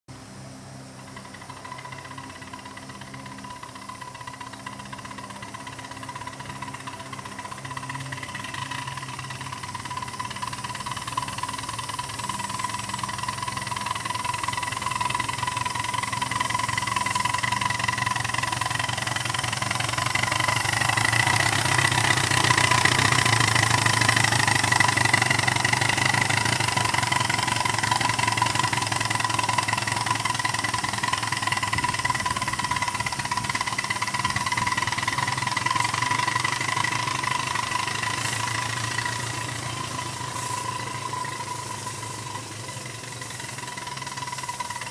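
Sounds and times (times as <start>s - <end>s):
miniature train running with whine: 0.1s - 44.9s.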